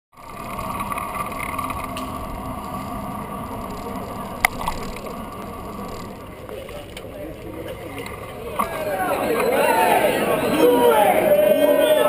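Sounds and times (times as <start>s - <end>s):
crowd of cyclists milling: 0.1s - 12.0s.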